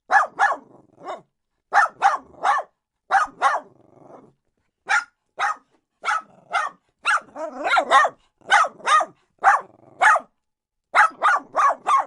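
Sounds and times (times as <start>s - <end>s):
dog barking: 0.1s - 3.8s, 4.8s - 12.0s.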